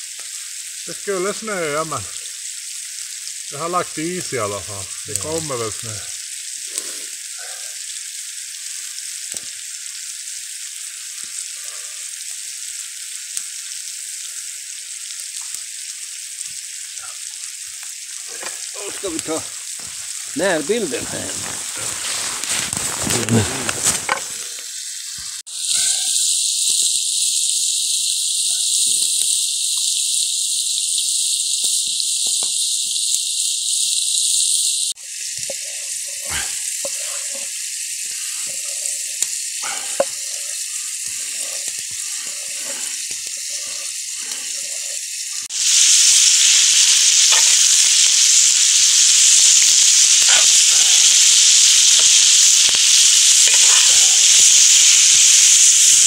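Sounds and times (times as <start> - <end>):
meat sizzling in a pan: 0.0 - 56.0.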